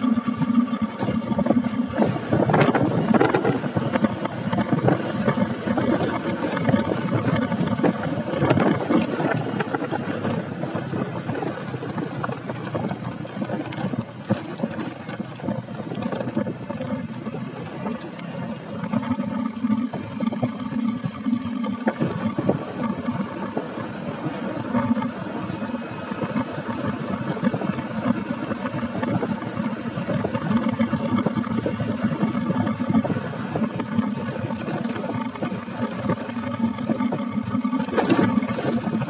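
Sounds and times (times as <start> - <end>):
motorbike engine running: 0.0 - 39.0
wind rushing over microphone: 0.0 - 39.0.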